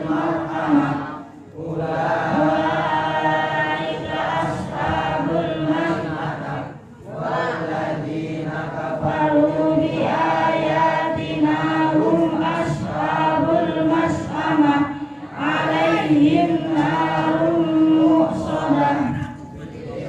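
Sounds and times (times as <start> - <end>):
group chanting in unison: 0.0 - 20.0.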